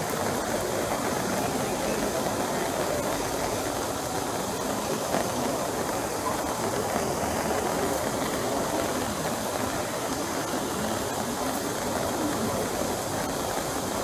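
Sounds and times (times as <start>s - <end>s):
fountain water rushing and splashing: 0.0s - 14.0s
rain on wet stone paving: 0.0s - 14.0s.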